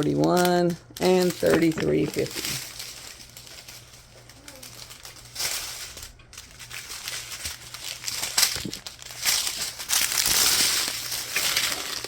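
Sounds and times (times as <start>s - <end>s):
crinkling of thin plastic bags: 0.0s - 12.0s.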